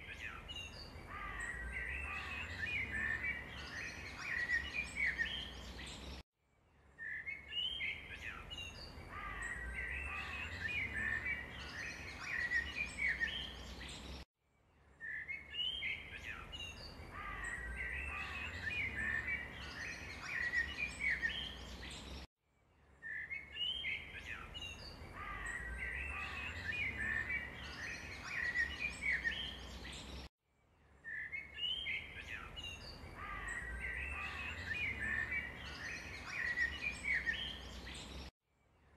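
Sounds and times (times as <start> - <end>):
birds chirping and singing: 0.0 - 6.2, 6.9 - 14.2, 14.9 - 22.3, 23.0 - 30.3, 31.0 - 38.3.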